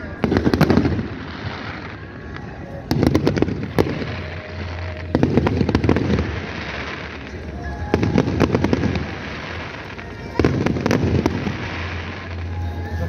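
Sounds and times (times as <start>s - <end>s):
fireworks crackling pops: 0.0s - 13.0s
fireworks low booms: 0.0s - 13.0s.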